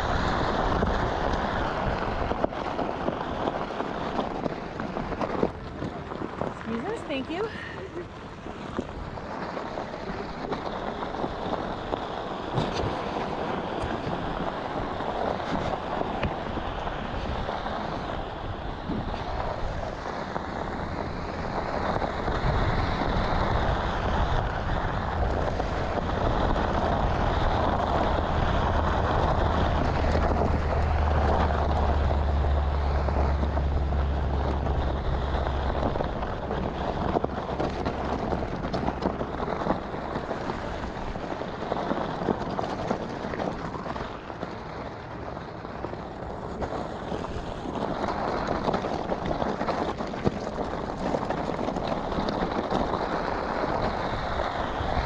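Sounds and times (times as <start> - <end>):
tyre crunching over gravel: 0.0 - 55.0
wind rumble on microphone: 0.0 - 55.0.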